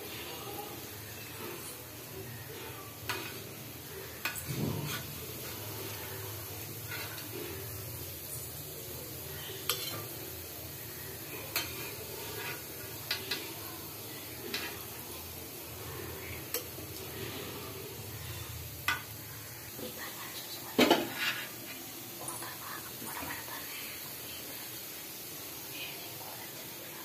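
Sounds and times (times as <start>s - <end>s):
oil sizzling: 0.0s - 27.0s.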